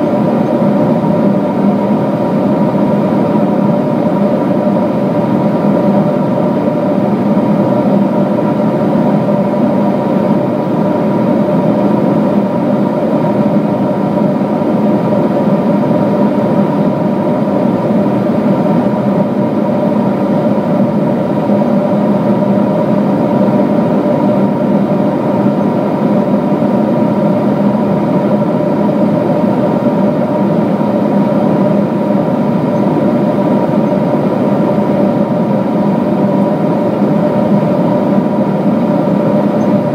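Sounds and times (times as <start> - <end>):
airflow rush in aircraft cabin: 0.0 - 39.9
jet engine hum: 0.0 - 39.9.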